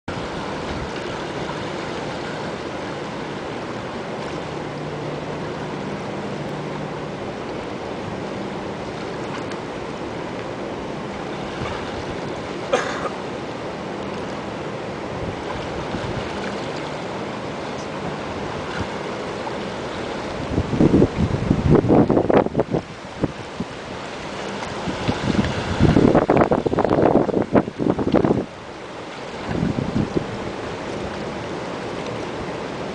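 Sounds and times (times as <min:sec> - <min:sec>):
wind: 0:00.0 - 0:32.9
river water rushing: 0:00.1 - 0:32.9.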